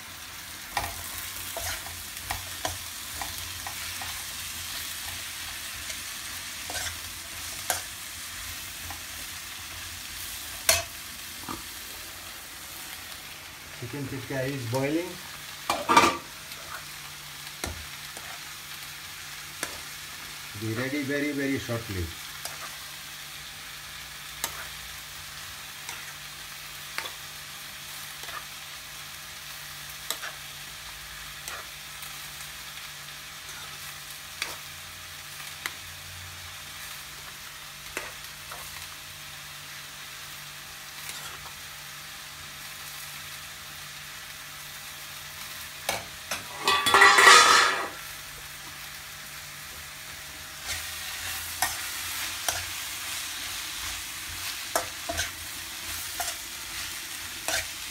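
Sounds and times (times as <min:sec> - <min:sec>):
vegetables frying while stirred: 0:00.0 - 0:57.9.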